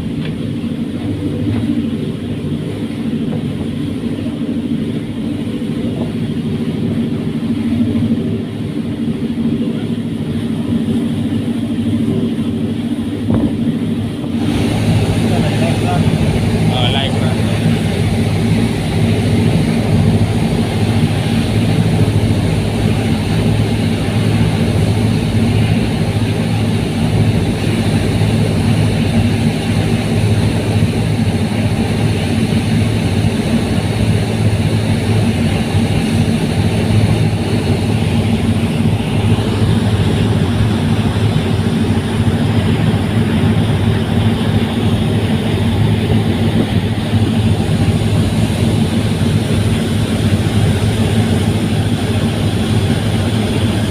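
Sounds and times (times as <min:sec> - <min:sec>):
ferry engines droning: 0:00.0 - 0:53.9.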